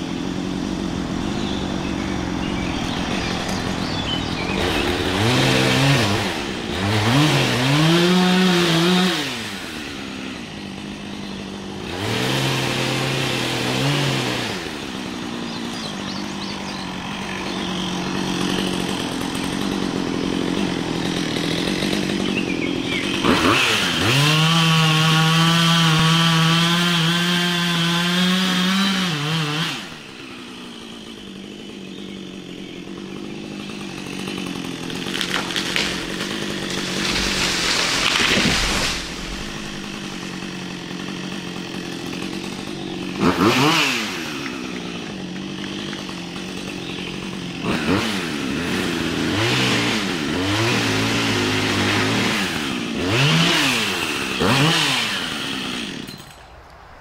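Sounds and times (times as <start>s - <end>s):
chainsaw cutting tree trunk: 0.0s - 56.6s
chainsaw idling and revving: 0.0s - 56.6s.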